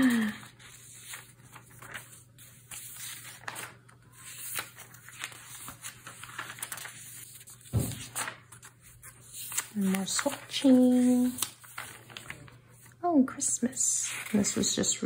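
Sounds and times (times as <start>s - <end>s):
paper pages rustling: 0.2s - 13.0s, 14.0s - 15.0s.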